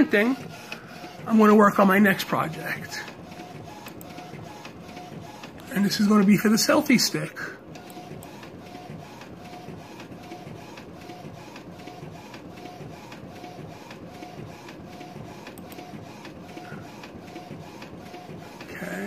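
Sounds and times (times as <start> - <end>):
inkjet printer printing: 0.0 - 19.0.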